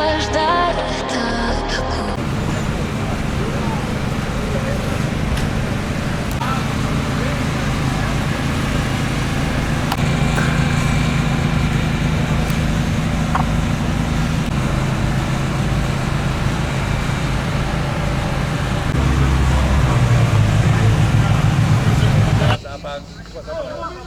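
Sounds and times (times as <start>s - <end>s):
vehicle engine running: 2.1s - 24.0s.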